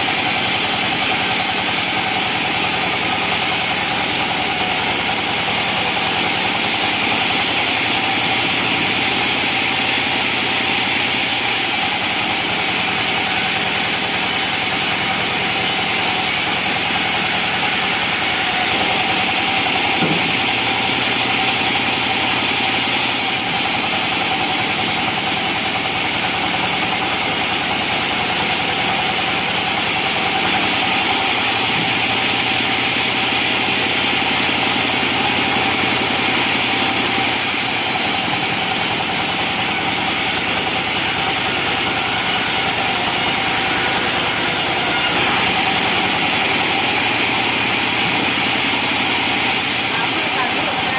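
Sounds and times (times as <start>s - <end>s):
sawmill saw running with hiss: 0.0s - 50.9s.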